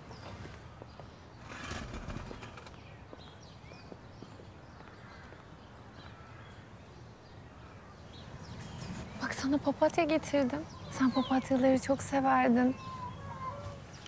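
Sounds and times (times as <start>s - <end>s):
small birds chirping faintly: 0.0s - 14.0s.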